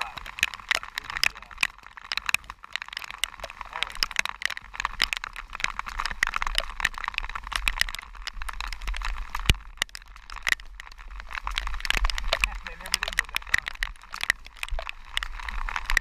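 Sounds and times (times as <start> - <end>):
raindrops ticking on camera: 0.0 - 16.0
wind rumble on microphone: 0.0 - 16.0.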